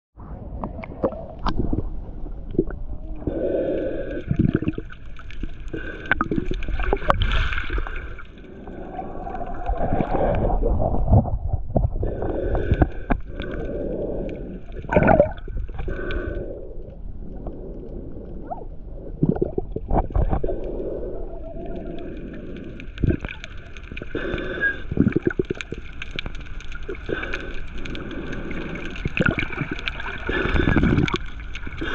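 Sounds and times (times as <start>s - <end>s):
water gurgling and sloshing: 0.2s - 31.9s.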